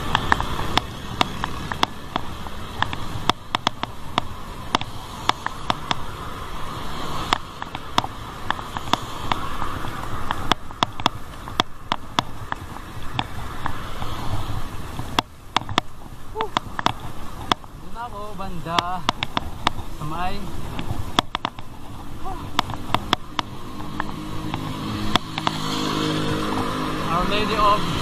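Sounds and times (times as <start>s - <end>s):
bicycle clicks and rattles: 0.0s - 6.4s, 7.2s - 17.8s, 18.7s - 27.5s
bicycle tyre rumble: 0.0s - 28.0s
wind noise: 0.0s - 28.0s.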